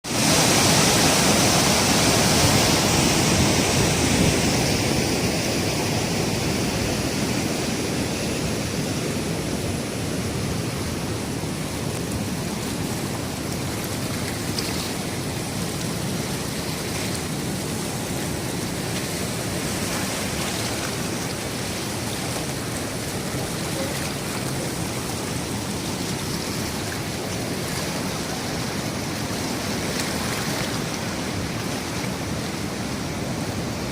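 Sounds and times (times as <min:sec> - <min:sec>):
rushing waterfall stream: 0:00.0 - 0:33.9.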